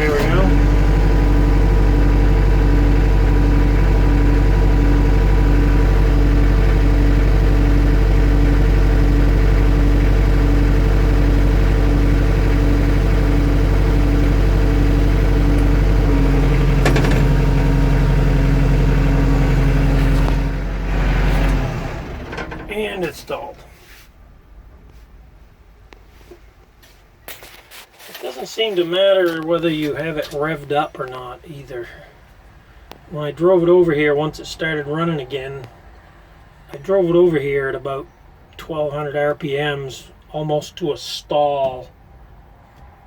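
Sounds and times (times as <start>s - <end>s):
diesel tractor engine idling: 0.0s - 26.2s, 28.5s - 42.5s.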